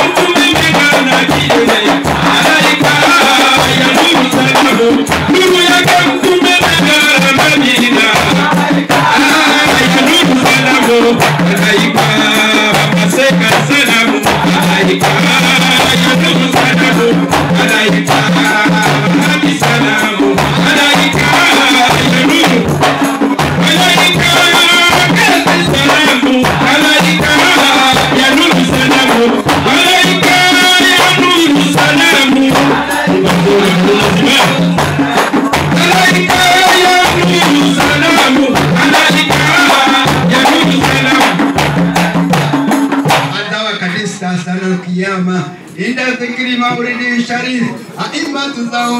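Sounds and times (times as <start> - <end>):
hand frame drums beating: 0.0 - 43.9
man singing through loudspeaker: 0.0 - 48.9.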